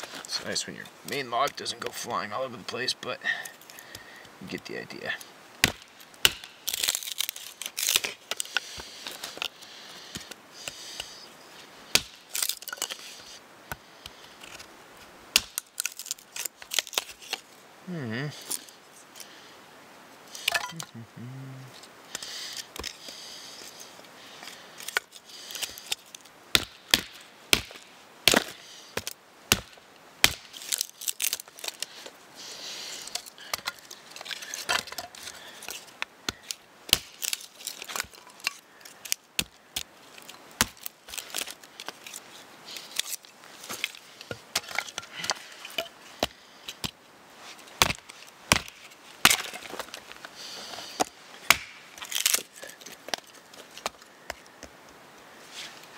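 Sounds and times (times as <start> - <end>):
wood splitting crackle: 3.3 - 11.2, 11.9 - 17.6, 20.3 - 21.0, 21.7 - 54.8.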